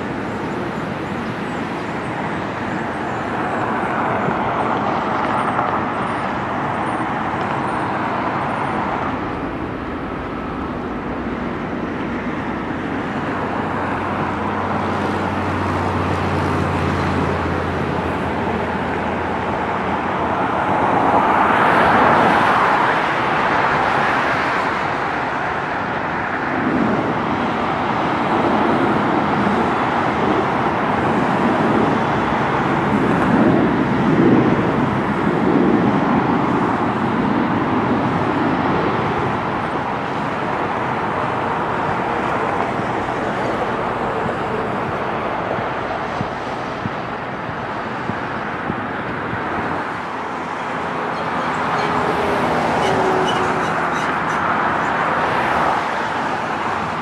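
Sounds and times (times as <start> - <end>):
jet engines rumbling and hissing: 0.0 - 57.0.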